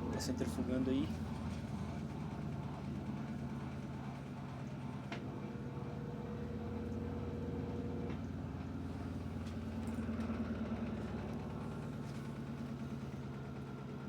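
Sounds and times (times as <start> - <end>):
washing machine spin cycle hum: 0.0 - 14.0.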